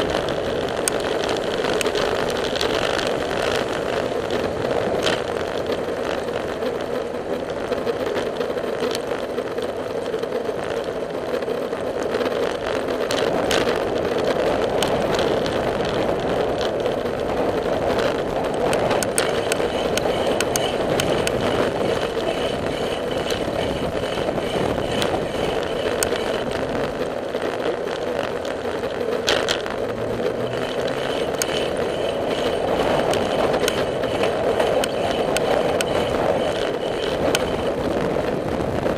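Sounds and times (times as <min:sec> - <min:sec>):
bicycle tyres on pavement: 0:00.0 - 0:38.9.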